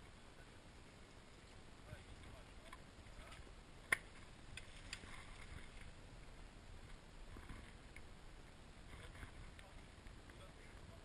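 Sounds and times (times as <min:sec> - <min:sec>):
mountain bike ride rumble: 0:00.0 - 0:11.0.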